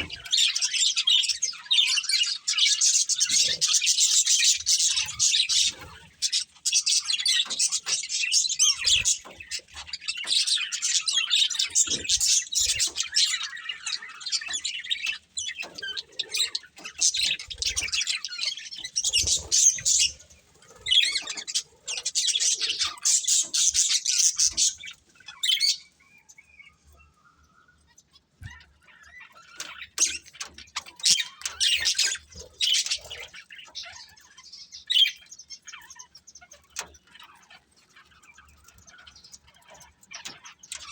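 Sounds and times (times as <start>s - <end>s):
budgerigars chattering: 0.0s - 27.0s, 28.1s - 40.9s.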